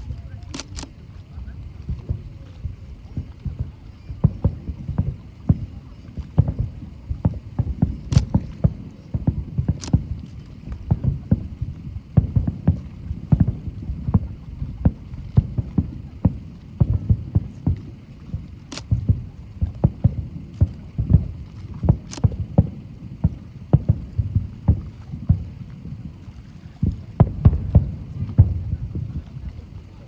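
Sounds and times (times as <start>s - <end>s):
fireworks booming: 0.0s - 30.0s
fireworks sharp cracks: 0.0s - 30.0s.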